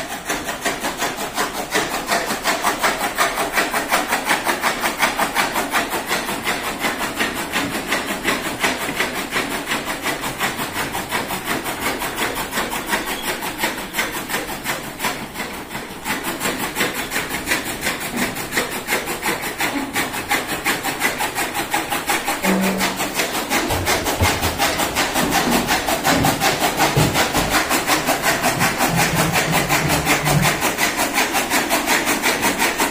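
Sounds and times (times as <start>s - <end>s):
machine rasping rhythmically: 0.0s - 32.9s.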